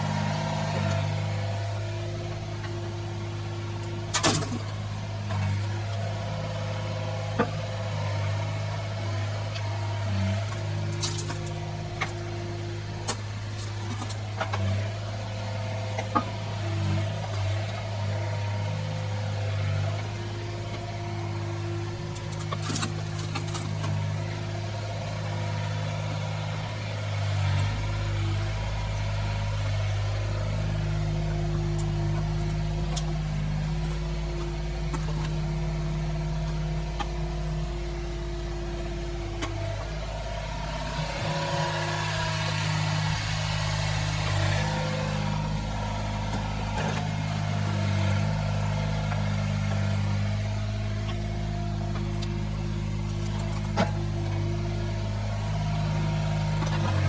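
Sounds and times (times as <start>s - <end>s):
deep hum: 0.0s - 57.0s
excavator diesel engine running: 0.0s - 57.0s.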